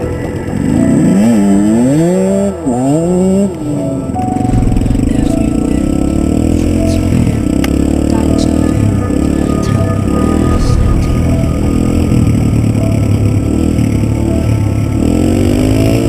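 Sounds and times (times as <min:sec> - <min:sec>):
background music: 0:00.0 - 0:16.0
dirt bike engine revving: 0:00.0 - 0:16.0.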